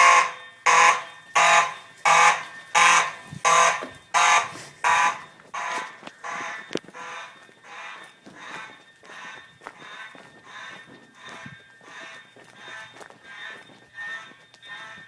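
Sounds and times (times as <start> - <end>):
fire alarm horn blasts: 0.0 - 15.0.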